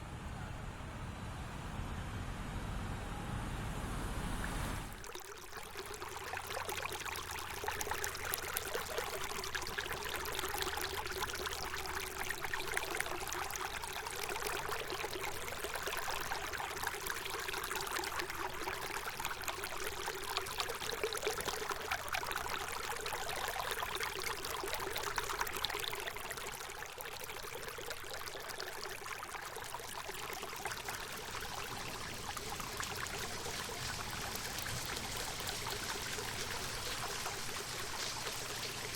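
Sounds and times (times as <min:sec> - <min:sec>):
stream water trickling: 0:04.4 - 0:38.9.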